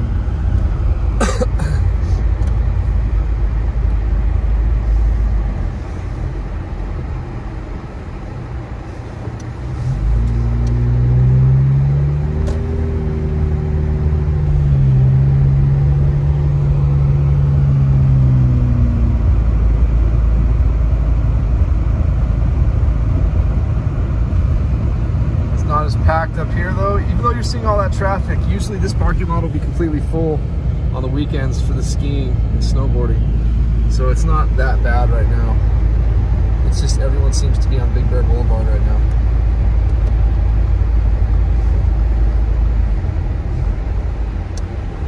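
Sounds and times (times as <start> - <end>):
car engine and tyre noise: 0.0 - 45.0.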